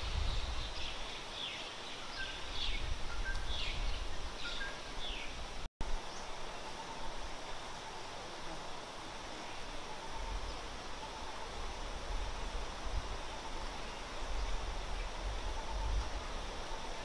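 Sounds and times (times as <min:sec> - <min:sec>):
forest background hiss: 0:00.0 - 0:17.0.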